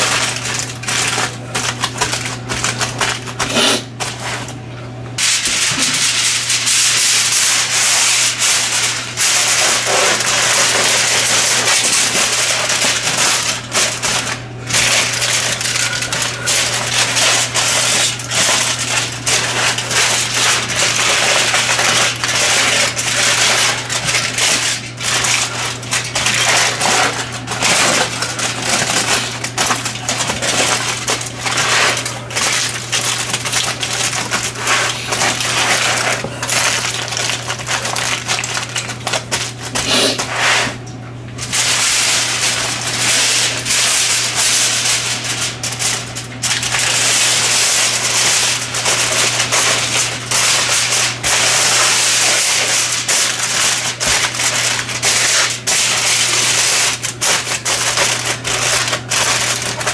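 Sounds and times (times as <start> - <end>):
foil crinkling: 0.0 - 4.6, 5.2 - 59.9.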